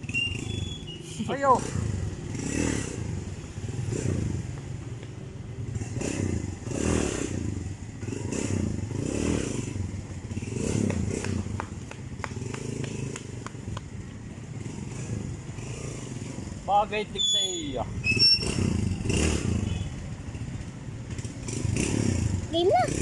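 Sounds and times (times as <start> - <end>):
motorcycle engine running: 0.0 - 16.9, 18.4 - 23.0.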